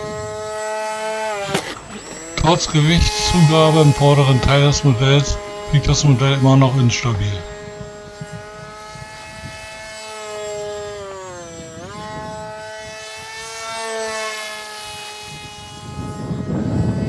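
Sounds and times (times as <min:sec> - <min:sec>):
model airplane motor whining: 0:00.0 - 0:17.0.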